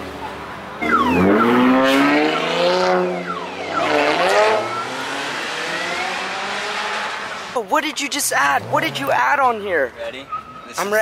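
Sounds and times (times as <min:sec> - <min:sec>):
car engine revving: 0:00.8 - 0:07.6, 0:08.2 - 0:10.6.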